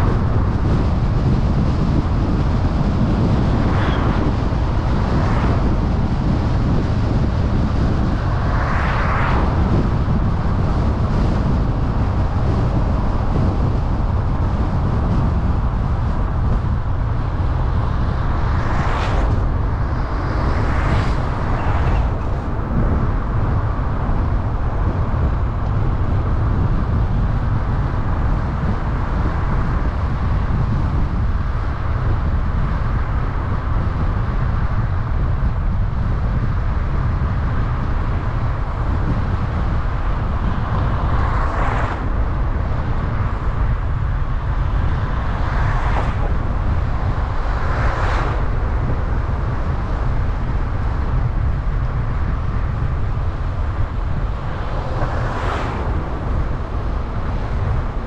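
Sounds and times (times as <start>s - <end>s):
vehicles whooshing past: 0.0s - 13.8s, 14.4s - 27.3s, 38.1s - 58.0s
car road and wind noise: 0.0s - 58.0s.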